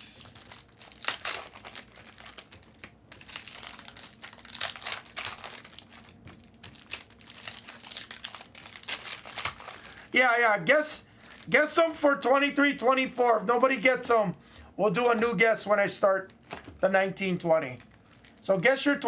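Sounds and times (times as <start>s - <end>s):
card pack wrappers crinkling: 0.0s - 13.0s, 15.0s - 19.0s.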